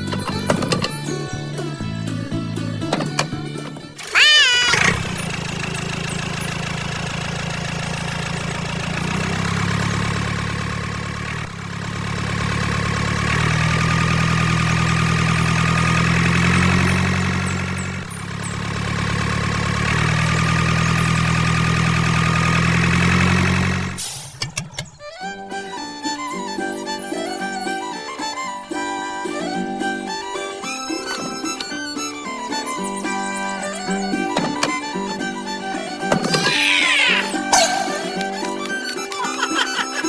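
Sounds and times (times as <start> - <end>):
engine rumbling: 0.0 - 40.0.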